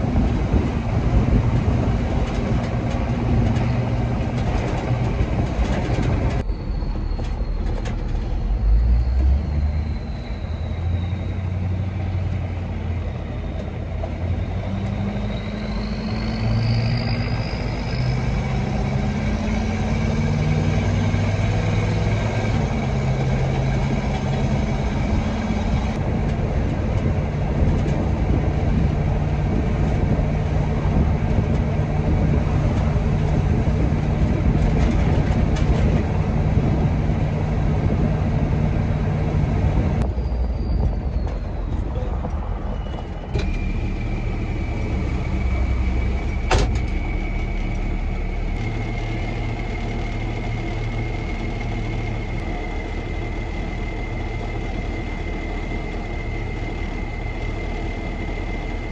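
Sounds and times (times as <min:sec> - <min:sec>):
road noise: 0:00.0 - 0:58.9
truck engine running: 0:00.0 - 0:58.9.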